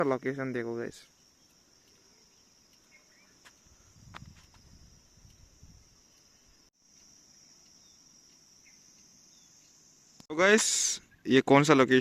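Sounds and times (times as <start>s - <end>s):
insect drone: 0.0s - 11.3s.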